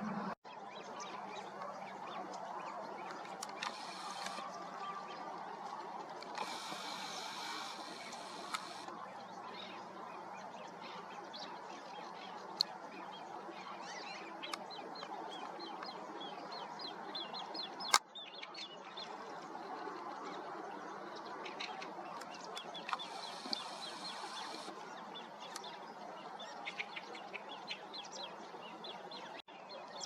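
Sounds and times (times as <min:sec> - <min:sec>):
birds chirping: 0:00.0 - 0:30.0
outdoor ambience: 0:00.0 - 0:30.0.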